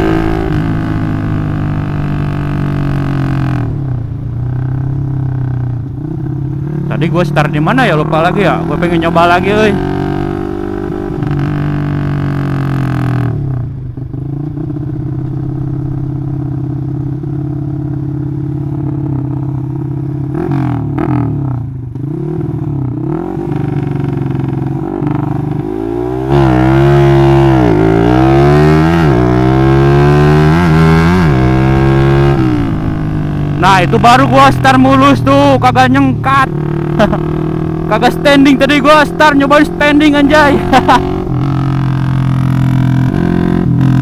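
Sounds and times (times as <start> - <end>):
motorcycle accelerating hard: 0.0 - 44.0
motorcycle engine revving: 0.0 - 44.0.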